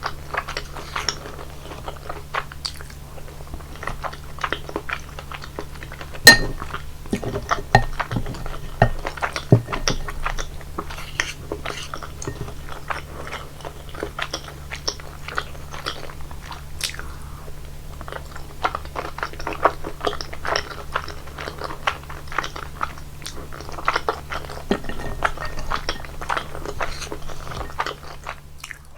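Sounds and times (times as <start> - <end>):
close-miked chewing: 0.0 - 28.9
steady low hum: 0.0 - 28.9.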